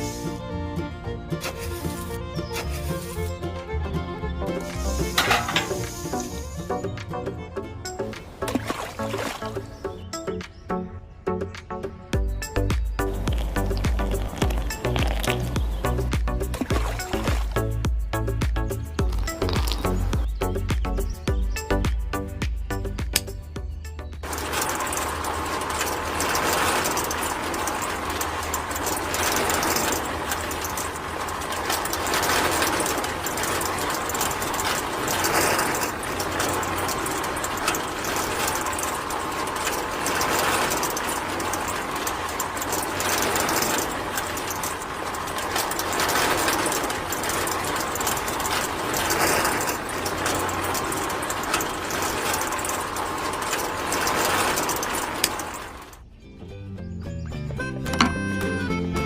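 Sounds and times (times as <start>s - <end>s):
small mechanism clicking and whirring: 1.4s - 3.5s, 4.5s - 6.9s, 12.3s - 56.1s.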